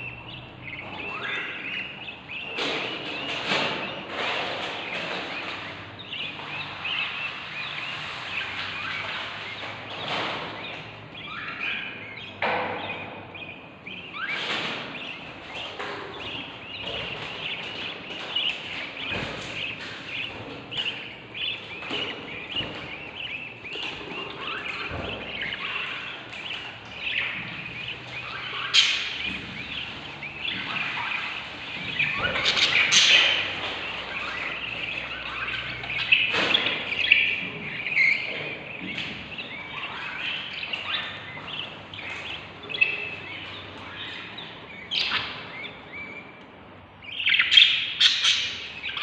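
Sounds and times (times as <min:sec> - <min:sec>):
nestlings chirping: 0:00.0 - 0:49.0.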